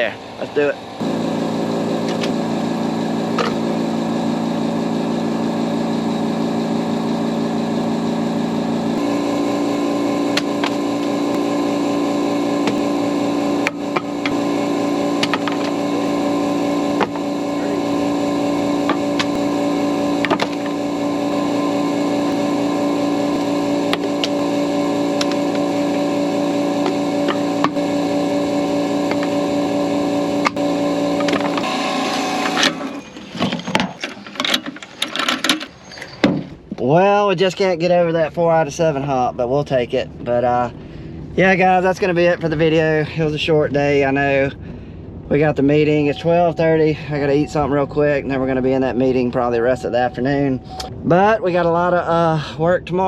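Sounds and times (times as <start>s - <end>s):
vehicle engine running: 0.0s - 35.7s, 36.6s - 52.6s.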